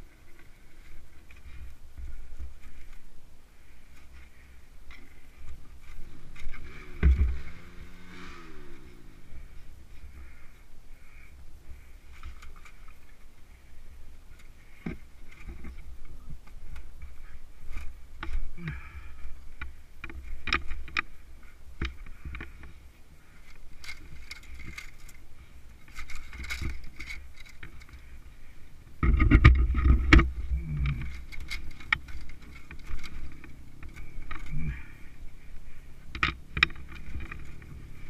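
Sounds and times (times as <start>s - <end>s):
rumble: 0.0s - 38.0s.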